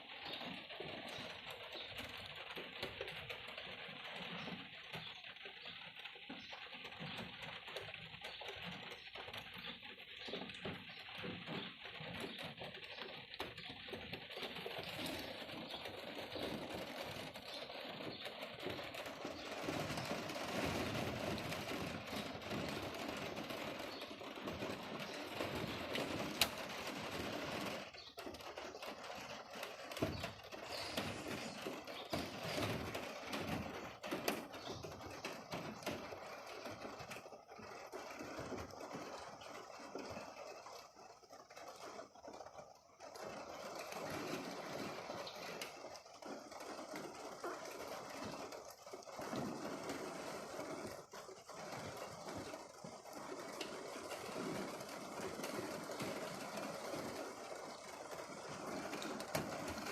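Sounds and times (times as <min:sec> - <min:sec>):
rain patter: 0:00.0 - 0:59.9.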